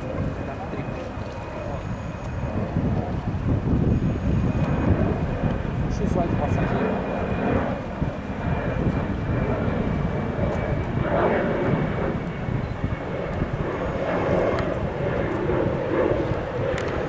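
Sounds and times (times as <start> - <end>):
jet airliner roar overhead: 0.0 - 17.0.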